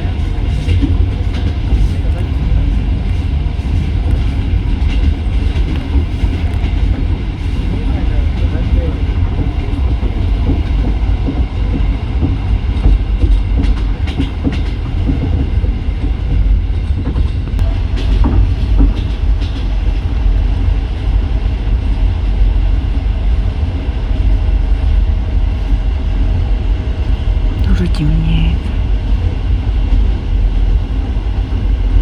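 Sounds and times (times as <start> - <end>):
train wheels clattering on track: 0.0 - 26.4.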